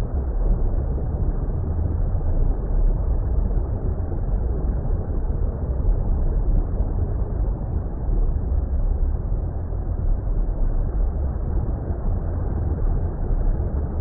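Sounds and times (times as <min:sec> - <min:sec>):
deep underwater rumble: 0:00.0 - 0:14.0.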